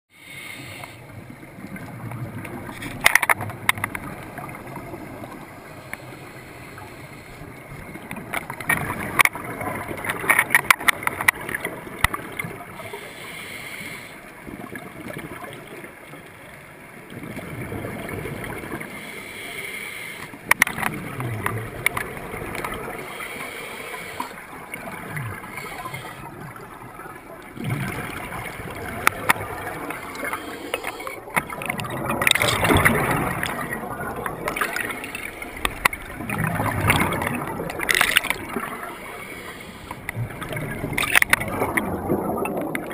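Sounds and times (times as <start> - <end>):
rush of water: 0.7 - 19.5, 20.3 - 42.9
diver bubbles gurgling: 1.0 - 13.1, 17.0 - 19.0, 20.4 - 42.9.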